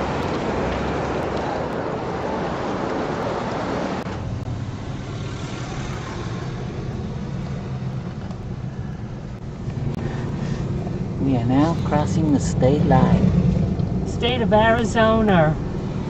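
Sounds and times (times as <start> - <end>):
vehicle low rumble: 0.0 - 16.0
wind and road noise: 0.0 - 16.0.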